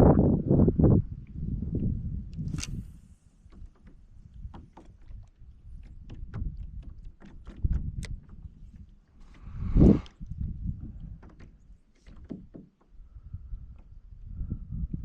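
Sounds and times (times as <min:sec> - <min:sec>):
waves lapping against hull: 0:01.1 - 0:15.0
light clicks and knocks from boat: 0:01.2 - 0:15.0.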